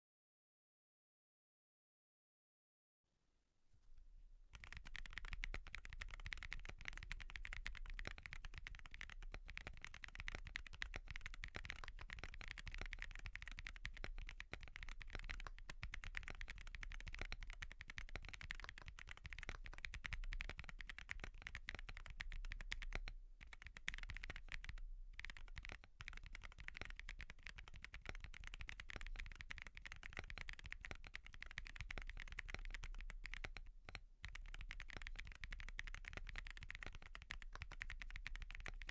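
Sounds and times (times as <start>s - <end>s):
mechanical keyboard typing: 4.6s - 38.9s.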